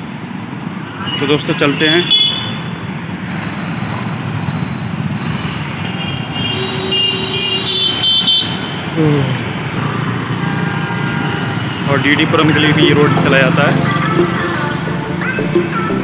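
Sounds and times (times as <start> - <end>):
motorbike and scooter engines: 0.0 - 15.8.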